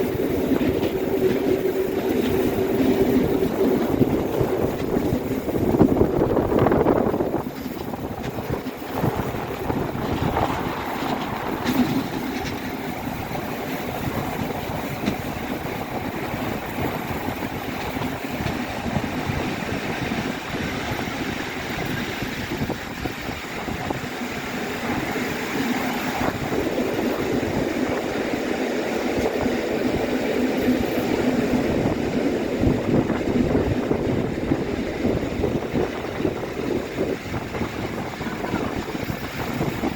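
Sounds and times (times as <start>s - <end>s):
passenger train on track: 0.0s - 39.9s.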